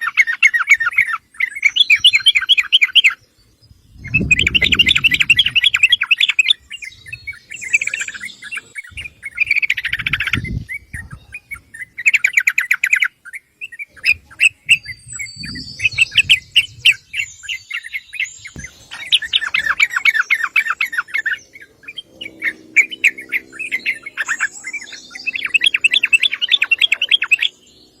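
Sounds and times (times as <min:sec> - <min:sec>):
bird singing chattering phrases: 0:00.0 - 0:28.0.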